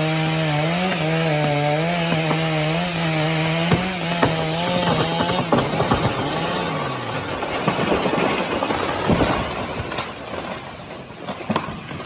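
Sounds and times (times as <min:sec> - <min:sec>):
chainsaw engine revving down: 0:00.0 - 0:09.9
irregular cracks and knocks: 0:00.8 - 0:12.0.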